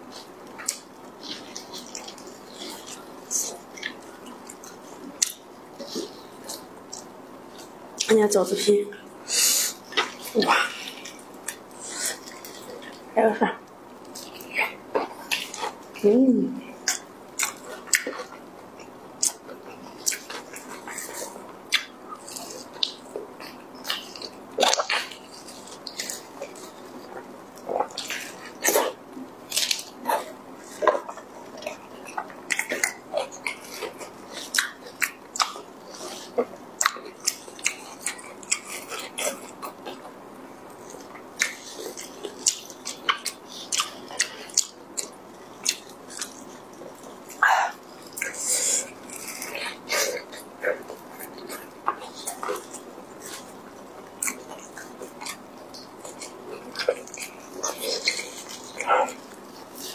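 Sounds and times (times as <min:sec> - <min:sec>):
wet chewing and lip-smacking: 0:00.1 - 0:08.2, 0:16.8 - 0:59.9.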